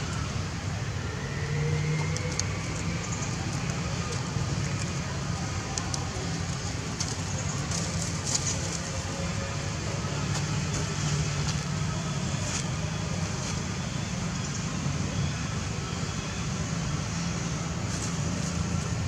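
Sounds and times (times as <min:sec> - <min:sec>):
constant low hum: 0:00.0 - 0:19.0.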